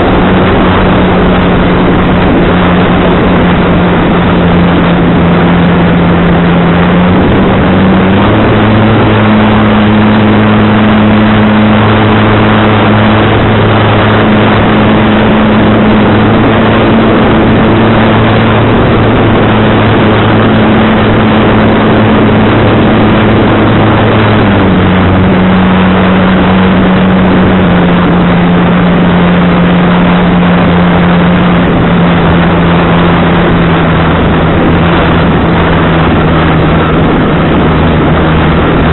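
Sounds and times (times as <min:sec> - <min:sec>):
model airplane motor and propeller: 0:00.0 - 0:38.9
wind noise on microphone: 0:00.0 - 0:38.9.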